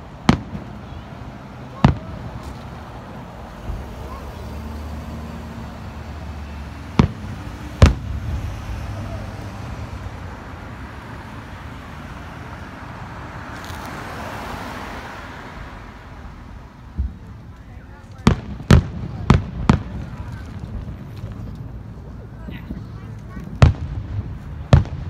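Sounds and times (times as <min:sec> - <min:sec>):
car passing: 0:00.0 - 0:25.0.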